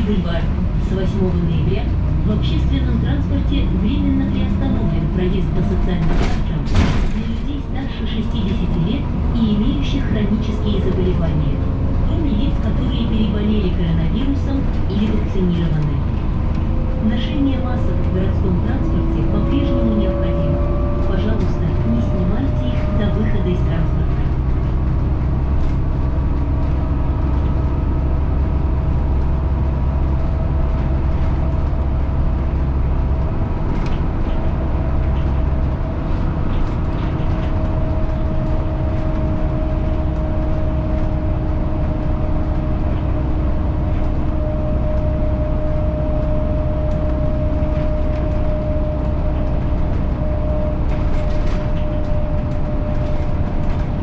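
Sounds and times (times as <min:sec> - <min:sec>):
bus drivetrain and road rumble: 0:00.0 - 0:54.0.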